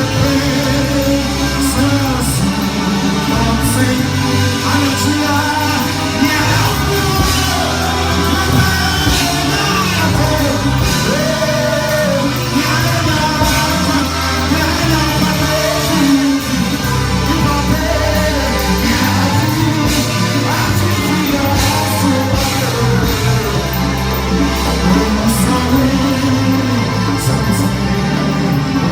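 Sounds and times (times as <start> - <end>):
gospel band with heavy bass: 0.0 - 28.9
person singing: 0.0 - 28.9.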